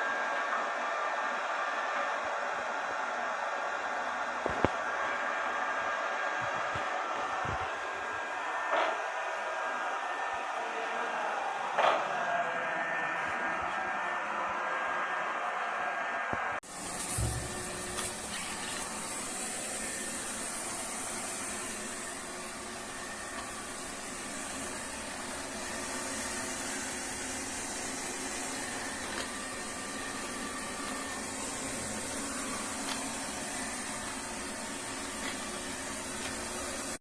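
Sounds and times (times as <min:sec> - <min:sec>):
robot vacuum cleaner whirring: 0:00.0 - 0:15.7, 0:16.3 - 0:37.0.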